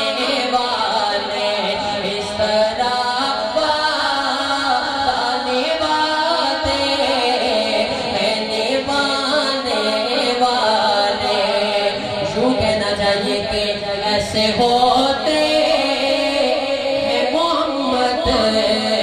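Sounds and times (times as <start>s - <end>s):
man singing through a microphone: 0.0s - 19.0s.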